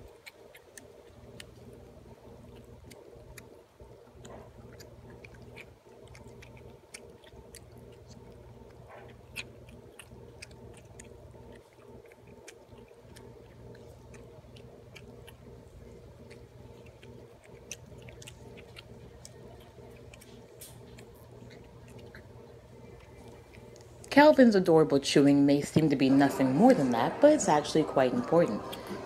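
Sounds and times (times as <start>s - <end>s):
wet chewing clicks and smacks: 0.0s - 24.5s
steady low hum: 0.0s - 29.0s.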